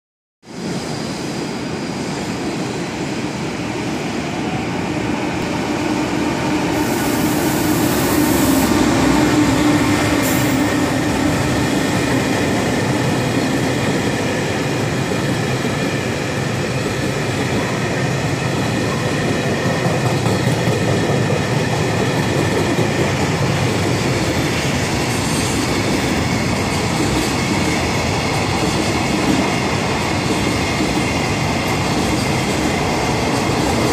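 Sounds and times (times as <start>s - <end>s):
freight train on rails: 0.4s - 33.9s.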